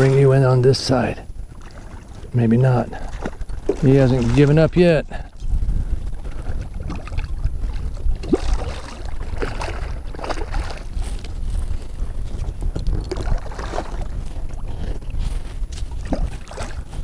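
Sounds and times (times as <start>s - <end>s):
water splashing and lapping: 0.0s - 17.0s
wind rumbling on microphone: 0.0s - 17.0s.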